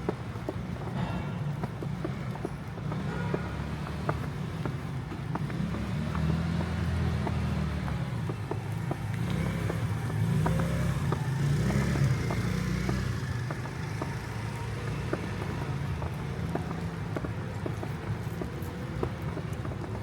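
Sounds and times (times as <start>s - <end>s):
footsteps on snow: 0.0s - 20.0s.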